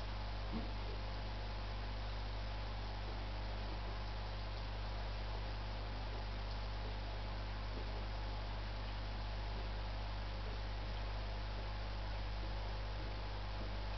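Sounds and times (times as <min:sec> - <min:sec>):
constant hiss: 0:00.0 - 0:13.9
low electrical hum: 0:00.0 - 0:13.9.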